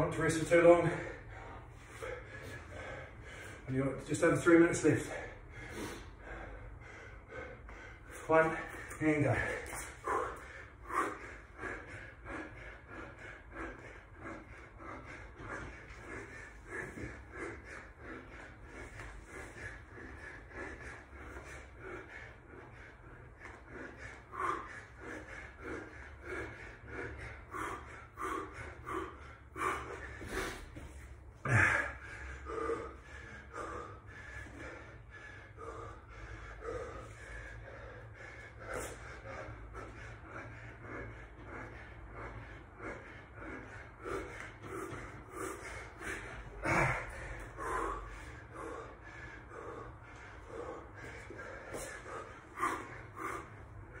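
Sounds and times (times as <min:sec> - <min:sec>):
man breathing hard: 0:00.0 - 0:54.0.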